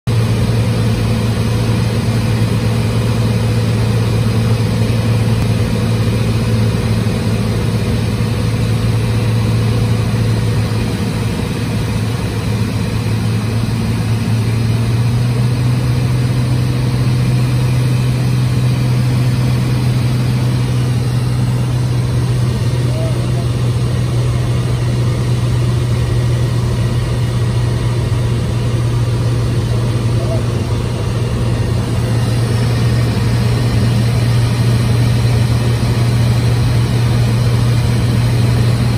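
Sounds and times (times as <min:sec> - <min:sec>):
aircraft engine and propeller droning: 0:00.1 - 0:38.9.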